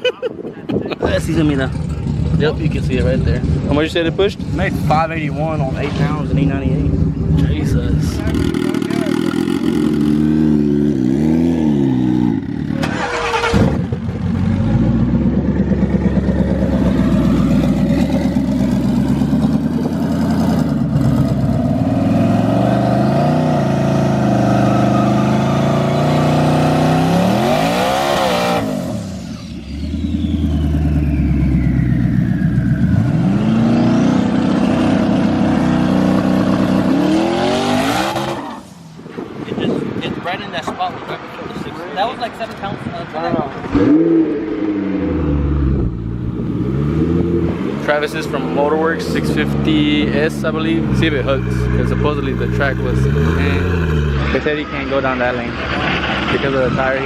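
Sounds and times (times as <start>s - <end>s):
drag car engine revving: 1.3s - 38.8s, 43.6s - 57.0s.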